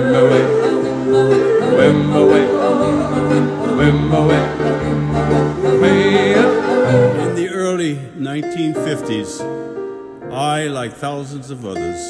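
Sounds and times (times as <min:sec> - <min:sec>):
music through loudspeaker: 0:00.0 - 0:11.0.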